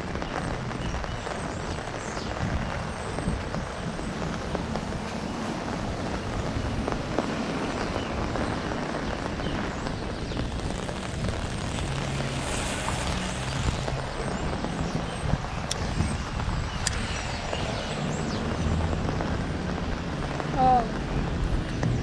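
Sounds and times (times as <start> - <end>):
heavy rain: 0.0 - 22.0
wind buffeting microphone: 0.0 - 22.0.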